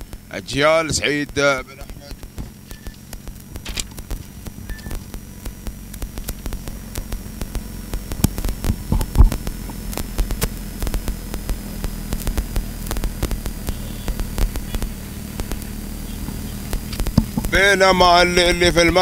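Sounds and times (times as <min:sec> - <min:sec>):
crackles and clicks: 0:00.0 - 0:19.0
low electrical hum: 0:00.0 - 0:19.0.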